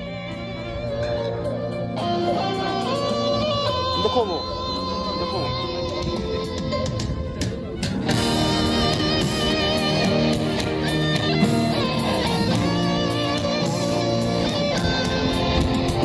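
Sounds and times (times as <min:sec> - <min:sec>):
guitar strummed and plucked: 0:00.0 - 0:16.0.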